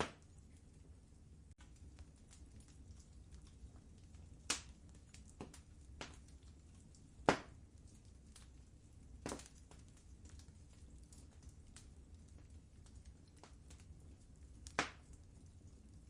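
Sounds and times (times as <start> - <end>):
sharp pops of fire: 0.0 - 0.5, 1.5 - 16.0
low steady rumble: 0.0 - 16.0
wood fire crackling: 0.0 - 16.0.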